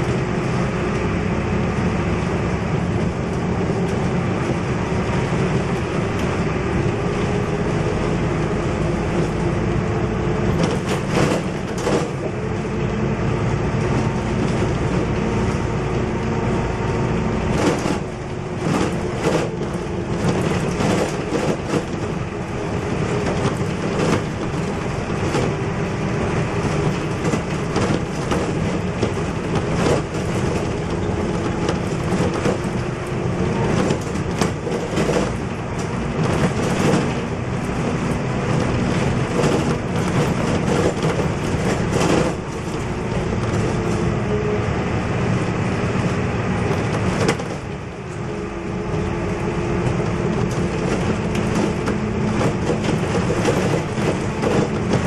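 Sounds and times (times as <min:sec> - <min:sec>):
bus body rattling: 0:00.0 - 0:55.0
bus diesel engine running: 0:00.0 - 0:55.0
road noise: 0:00.0 - 0:55.0.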